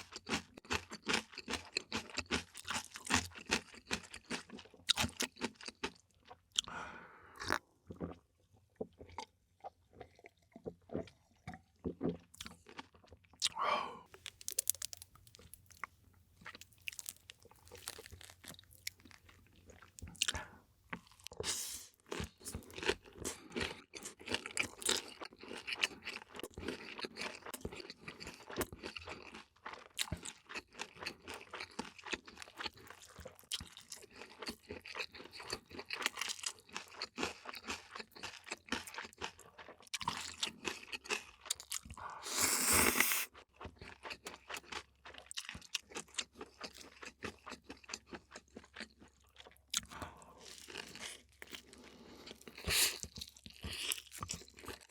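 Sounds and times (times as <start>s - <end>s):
chewing and crunching food: 0.0s - 54.9s.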